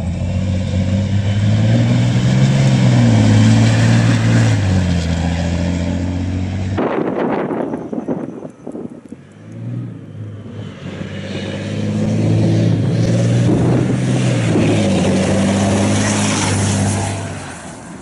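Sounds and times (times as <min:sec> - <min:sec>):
diesel truck engine running hard: 0:00.0 - 0:18.0.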